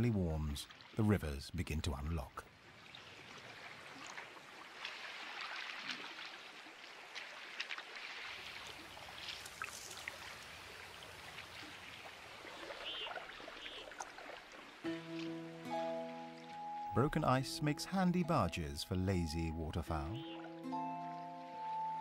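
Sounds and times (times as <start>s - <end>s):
river water flowing: 0.0s - 1.2s, 2.0s - 22.0s.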